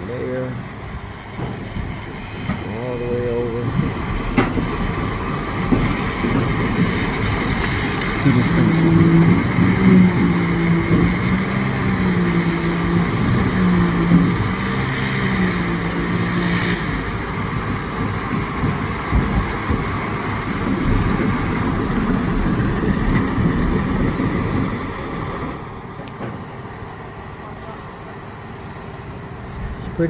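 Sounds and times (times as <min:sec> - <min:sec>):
concrete pump engine running: 0:00.0 - 0:30.0.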